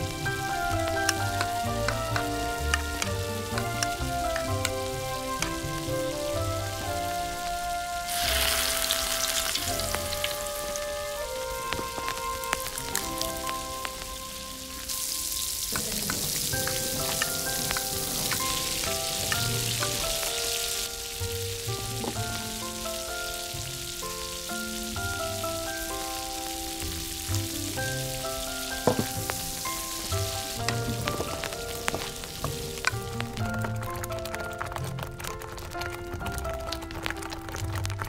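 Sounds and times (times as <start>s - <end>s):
food sizzling in iron pan: 0.0s - 35.8s
light background music: 0.0s - 38.0s.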